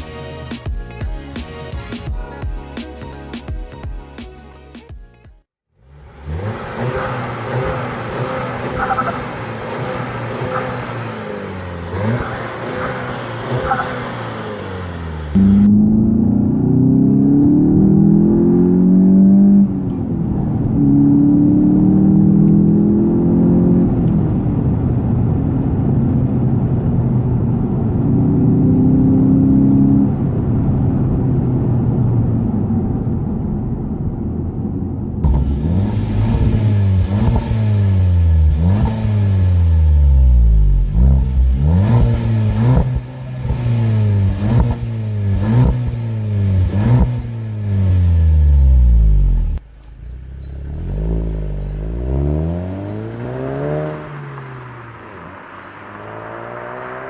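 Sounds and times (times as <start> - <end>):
car engine accelerating: 5.8 - 57.0
car engine revving in blips: 5.8 - 57.0.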